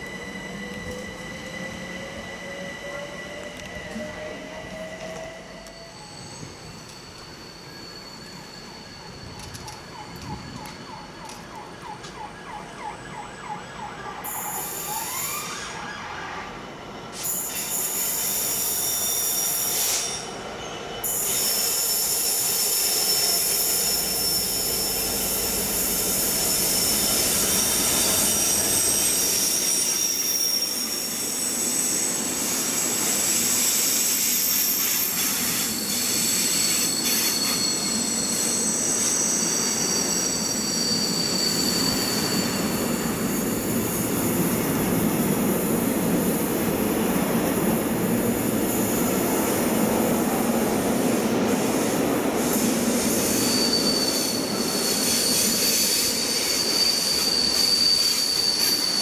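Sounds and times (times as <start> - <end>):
train wheels squealing: 0.0 - 59.0.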